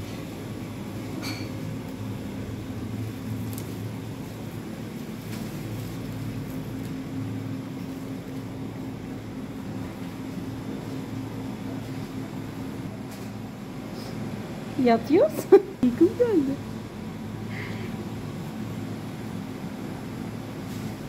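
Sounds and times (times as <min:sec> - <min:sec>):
refrigerated display cases humming: 0:00.0 - 0:21.0.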